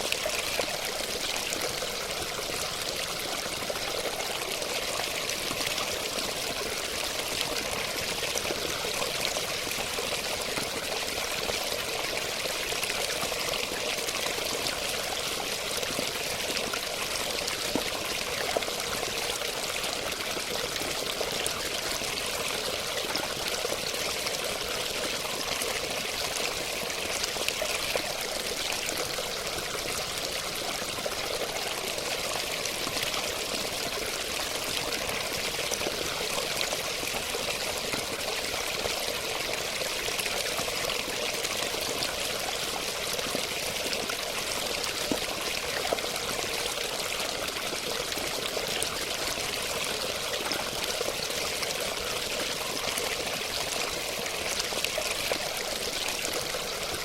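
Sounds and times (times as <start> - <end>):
water flowing and splashing: 0.0 - 57.0.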